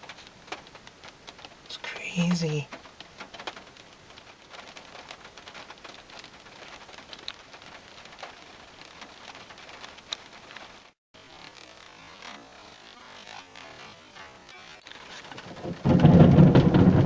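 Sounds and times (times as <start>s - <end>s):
rain falling: 0.0s - 10.9s, 13.6s - 17.0s
raindrops ticking close by: 0.0s - 12.4s, 13.0s - 17.0s.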